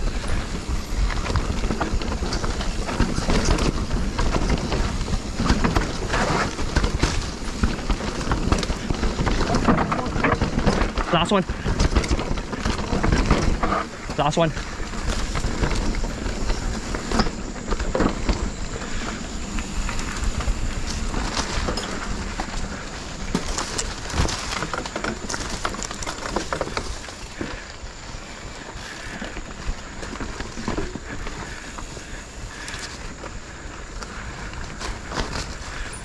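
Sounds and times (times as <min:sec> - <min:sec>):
bike rattling and clicking: 0:00.0 - 0:36.0
bike tyres rolling on dirt: 0:00.0 - 0:36.0.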